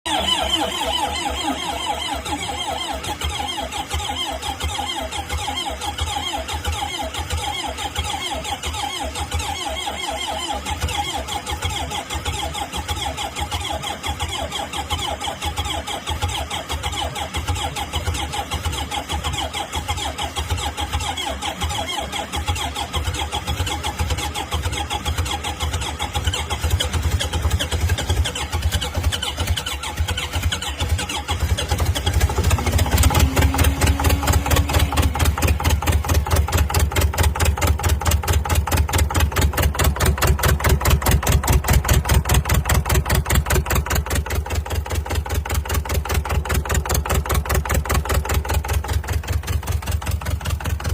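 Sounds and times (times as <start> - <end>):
diesel engine running: 0.1 - 50.9.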